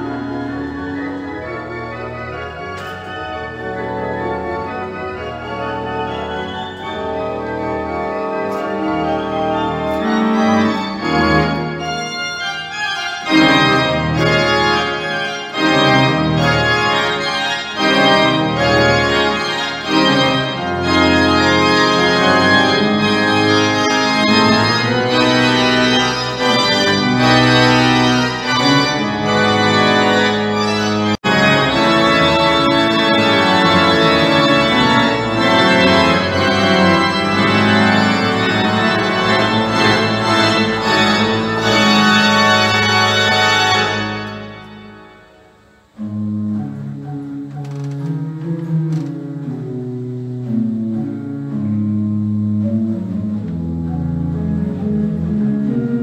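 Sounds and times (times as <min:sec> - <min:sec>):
church organ playing: 0:00.0 - 0:56.0.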